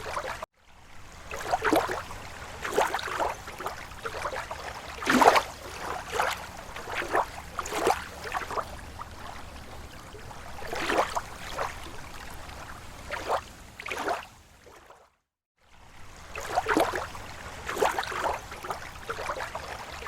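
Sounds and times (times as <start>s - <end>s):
waves lapping on lake shore: 0.0s - 20.0s.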